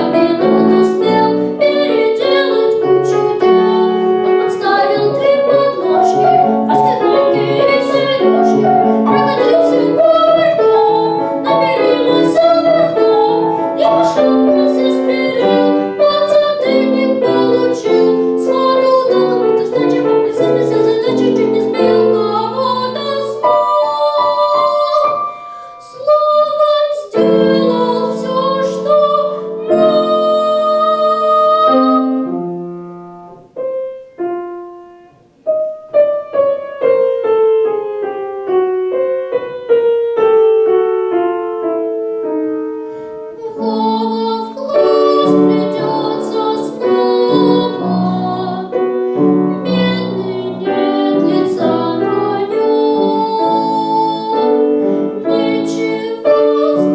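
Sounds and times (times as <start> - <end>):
solo piano: 0.0 - 56.9.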